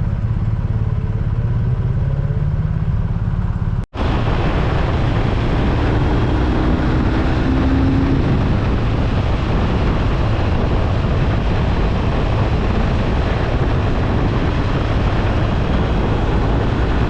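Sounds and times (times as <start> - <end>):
motorcycle engine running: 0.0 - 17.0
wind noise on microphone: 2.8 - 17.0.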